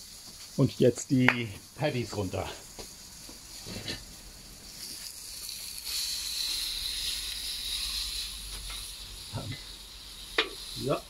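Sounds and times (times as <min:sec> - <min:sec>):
patties sizzling on a grill: 0:00.0 - 0:11.0.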